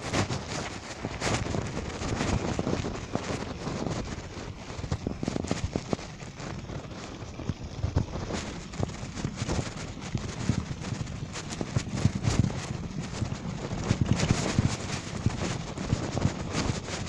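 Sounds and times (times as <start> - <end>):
bicycle rattling over bumpy road: 0.0 - 17.0.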